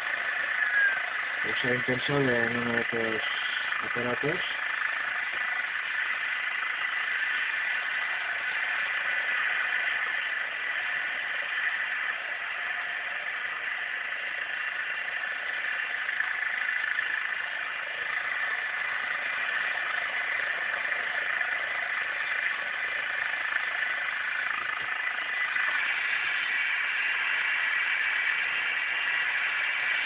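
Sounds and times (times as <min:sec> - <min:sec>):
helicopter turbine and rotor: 0:00.0 - 0:30.0.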